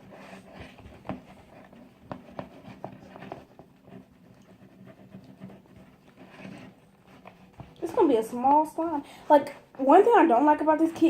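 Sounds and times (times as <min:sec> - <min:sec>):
spoon stirring slime: 0:00.0 - 0:11.0.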